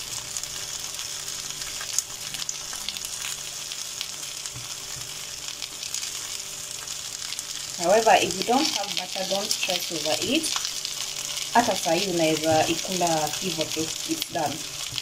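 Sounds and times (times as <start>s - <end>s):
meat sizzling in grill pan: 0.0s - 15.0s.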